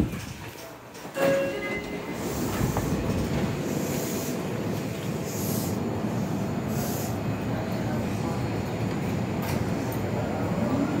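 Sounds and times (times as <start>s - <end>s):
low rumble of standing trains: 0.0s - 11.0s.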